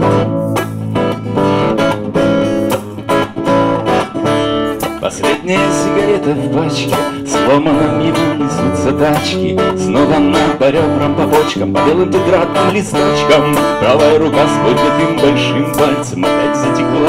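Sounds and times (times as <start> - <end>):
acoustic guitar strumming: 0.0 - 17.0
electric bass guitar: 0.0 - 17.0.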